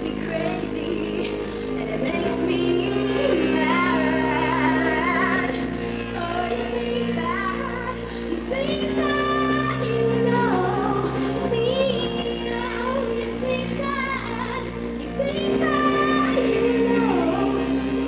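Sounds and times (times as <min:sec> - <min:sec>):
band playing sustained chords: 0:00.0 - 0:18.0
woman singing into microphone: 0:00.0 - 0:18.0.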